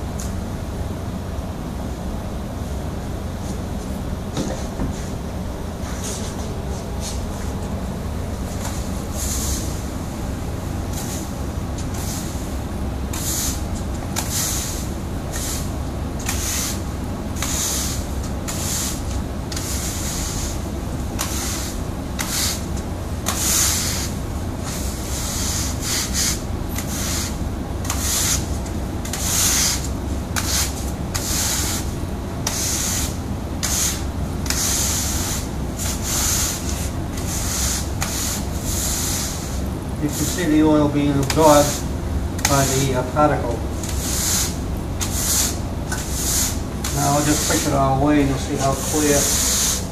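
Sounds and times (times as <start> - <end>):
steady low hum: 0.0 - 49.9
push broom sweeping granules: 8.4 - 10.0, 10.9 - 49.9.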